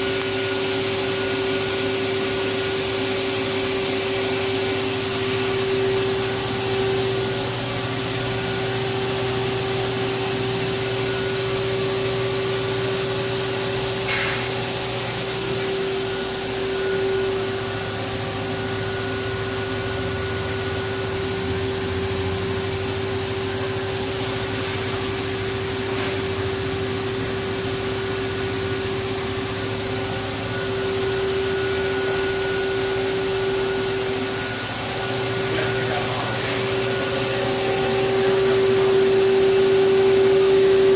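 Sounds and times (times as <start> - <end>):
lathe running with whine: 0.0 - 40.9.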